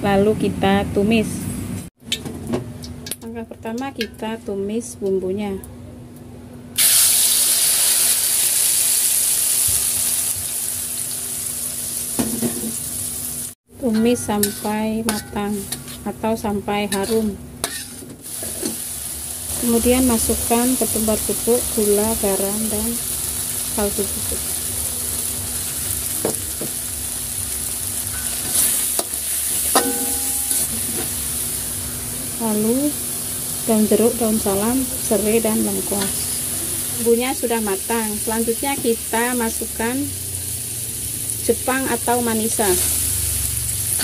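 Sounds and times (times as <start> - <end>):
spice paste sizzling in hot oil: 6.8 - 44.0.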